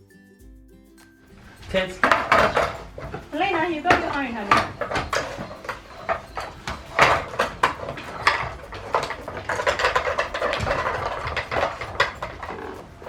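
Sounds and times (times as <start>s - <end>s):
puzzle toys clattering and clicking: 1.3s - 13.0s.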